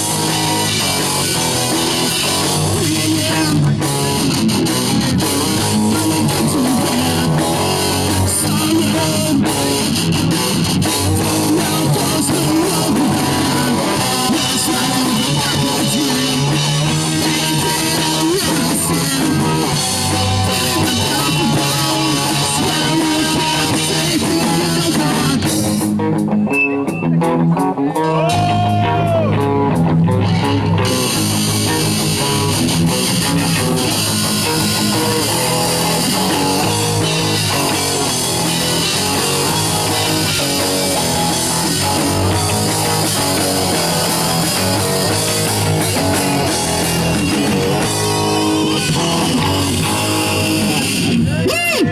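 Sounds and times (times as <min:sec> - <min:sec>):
bass guitar: 0:00.0 - 0:51.9
drum kit: 0:00.0 - 0:51.9
electric guitars: 0:00.0 - 0:51.9.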